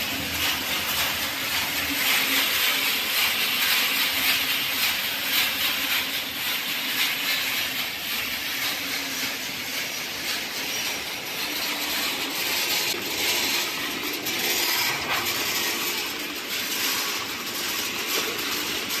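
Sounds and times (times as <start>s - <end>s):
hissing machinery: 0.0s - 19.0s.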